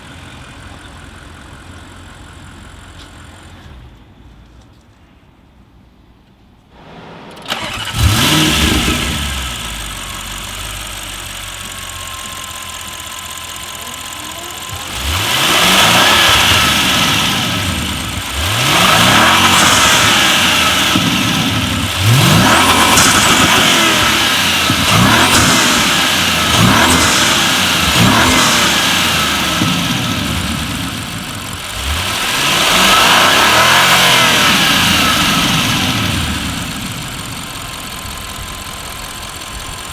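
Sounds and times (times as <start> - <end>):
car engine idling and revving: 0.0 - 5.0, 6.7 - 39.9.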